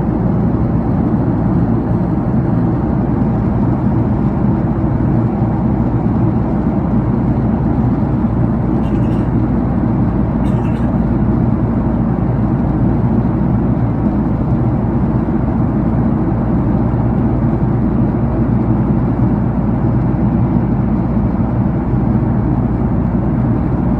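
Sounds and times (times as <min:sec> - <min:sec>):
airliner cabin engine noise: 0:00.0 - 0:23.9.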